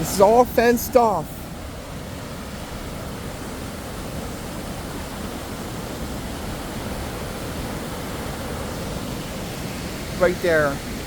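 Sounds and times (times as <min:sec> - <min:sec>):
waterfall roar: 0:00.0 - 0:11.0.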